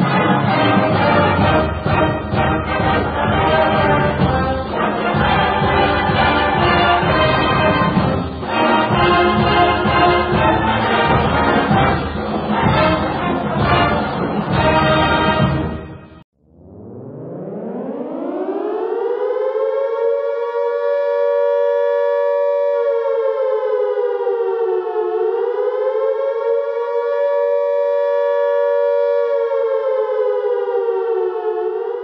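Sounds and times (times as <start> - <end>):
air-raid siren wailing: 0.0 - 32.0.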